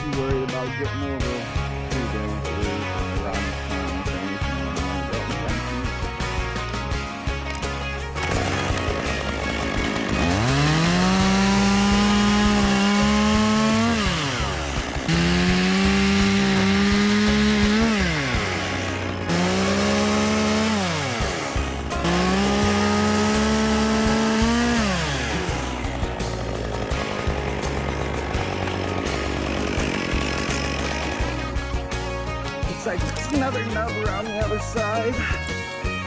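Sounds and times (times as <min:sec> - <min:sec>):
background music: 0:00.0 - 0:36.0
chainsaw revving through branches: 0:05.6 - 0:35.8.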